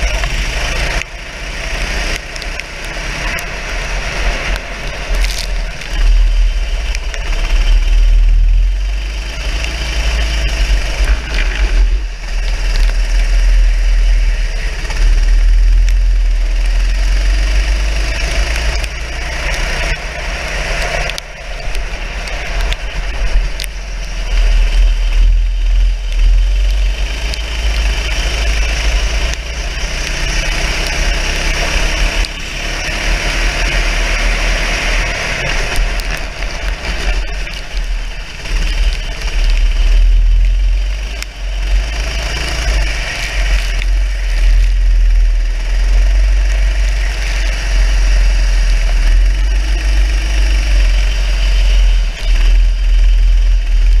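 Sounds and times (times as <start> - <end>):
kart engine revving: 0.0 - 54.0
wind rumble on microphone: 0.0 - 54.0.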